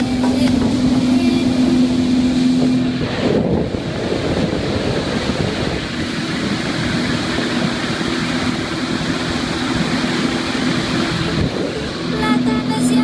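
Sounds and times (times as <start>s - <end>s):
wind buffeting microphone: 0.0s - 12.2s
jet ski engine drone: 0.0s - 13.0s
rushing water: 0.0s - 13.0s.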